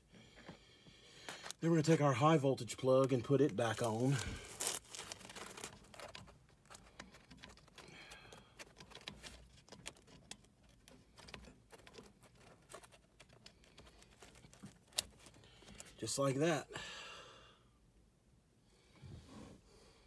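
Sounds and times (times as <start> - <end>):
rustling of wiring harness: 0.0 - 16.5.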